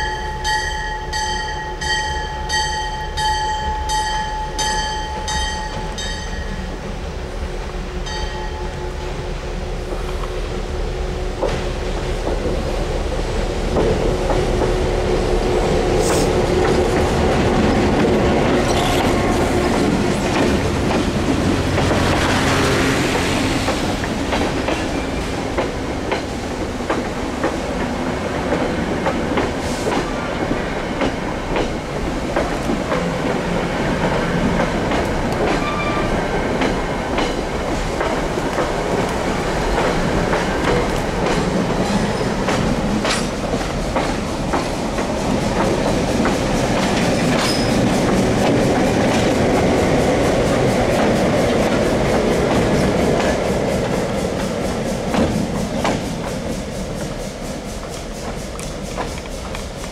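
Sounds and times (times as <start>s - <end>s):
diesel locomotive engines humming: 0.0s - 59.9s
train wheels clacking over rail joints: 11.3s - 59.9s.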